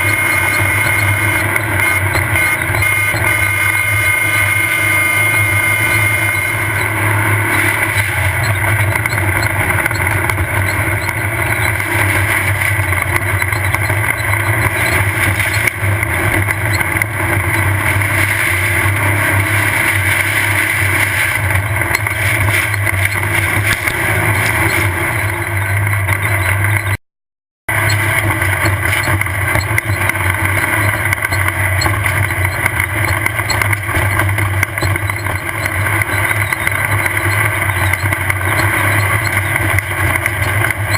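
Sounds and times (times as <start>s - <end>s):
buggy engine running hard: 0.0s - 27.0s, 27.7s - 40.9s.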